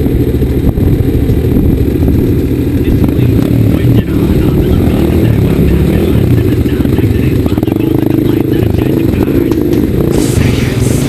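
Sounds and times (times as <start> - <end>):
dirt bike engines idling: 0.0 - 11.0.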